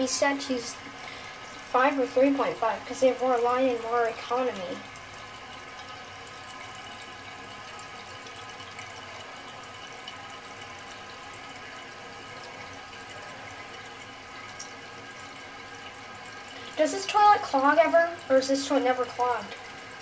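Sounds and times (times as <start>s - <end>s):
water hissing into toilet tank: 0.0s - 20.0s.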